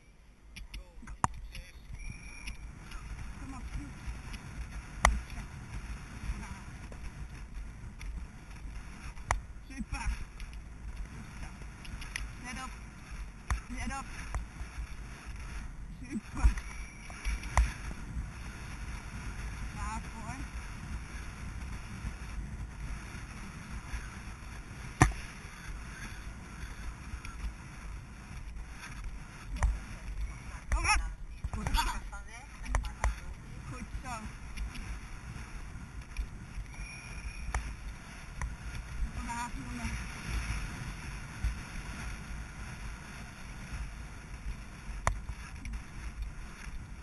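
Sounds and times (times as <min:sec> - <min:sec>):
wind on helmet camera: 0:00.0 - 0:47.0.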